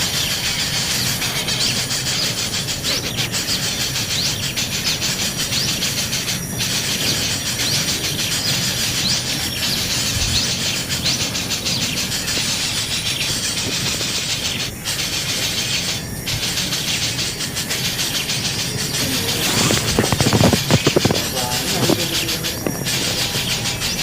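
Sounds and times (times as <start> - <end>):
nestling birds begging calls: 0.0 - 24.0.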